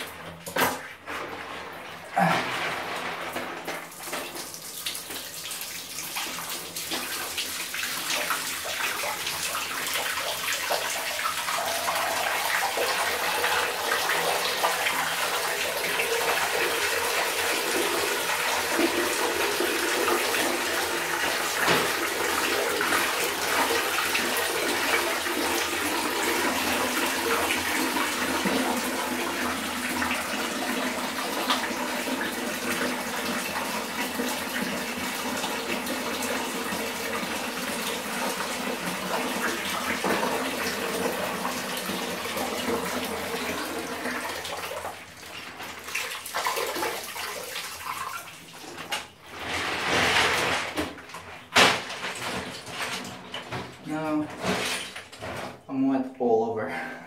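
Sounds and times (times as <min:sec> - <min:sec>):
water running and splashing in sink: 0:00.0 - 0:56.6.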